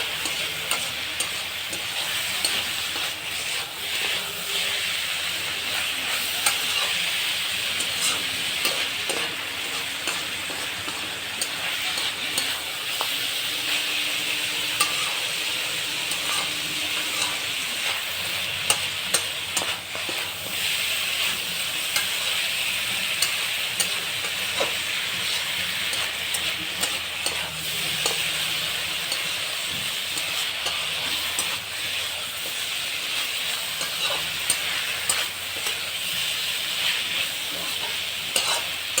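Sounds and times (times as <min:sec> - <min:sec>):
curry sizzling in oil: 0:00.0 - 0:39.0
utensil scraping a pan: 0:05.4 - 0:39.0.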